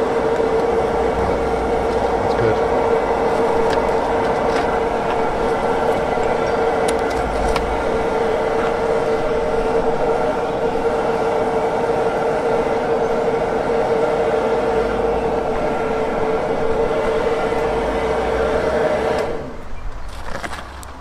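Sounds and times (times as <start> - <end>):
electric air blower whirring: 0.0 - 19.6.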